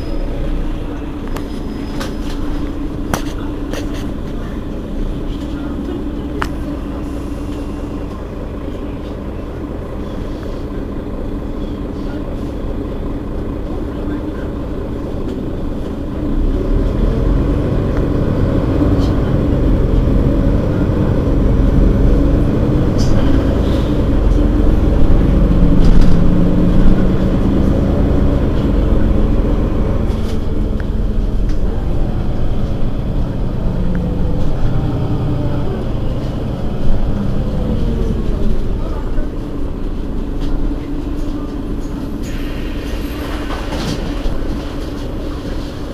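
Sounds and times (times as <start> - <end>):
bus engine idling: 0.0 - 45.9.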